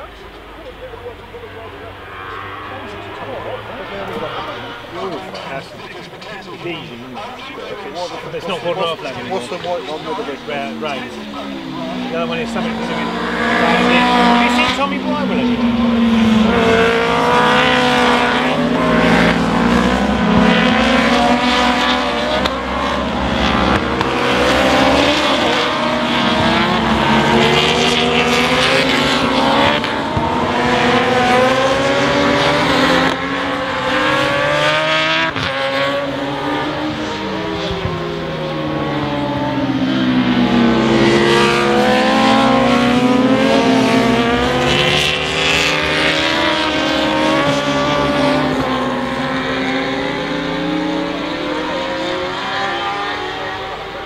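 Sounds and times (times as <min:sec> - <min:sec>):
racing motorcycles passing: 0:00.0 - 0:54.0.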